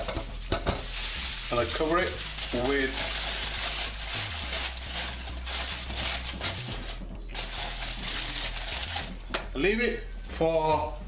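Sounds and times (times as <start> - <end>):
aluminium foil crinkling: 0.0 - 9.3.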